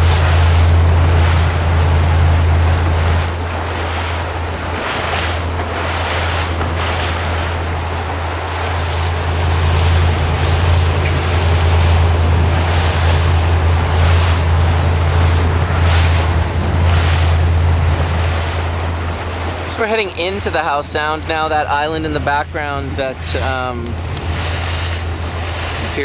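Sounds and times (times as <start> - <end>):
motorboat engine hum: 0.0 - 26.0
water splashing against hull: 0.0 - 26.0
wind on microphone: 0.0 - 26.0.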